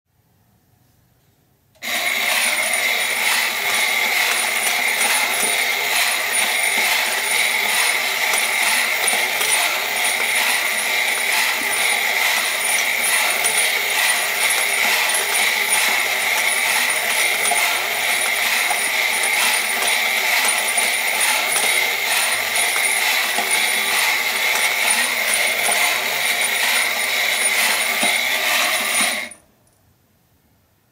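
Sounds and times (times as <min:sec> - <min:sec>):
toy motor and gears whirring: 0:01.8 - 0:29.4.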